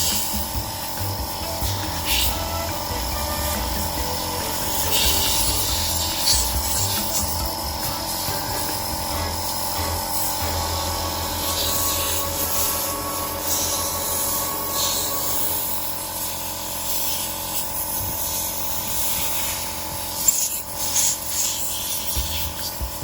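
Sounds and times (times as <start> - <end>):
compressed air hissing: 0.0 - 23.0
steady hum: 0.0 - 23.0.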